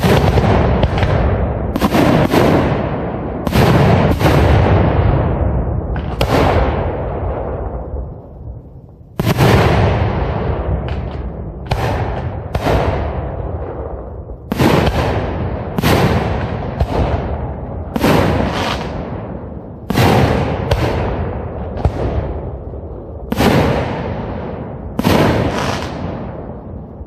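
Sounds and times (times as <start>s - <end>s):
fireworks booming: 0.0s - 27.0s.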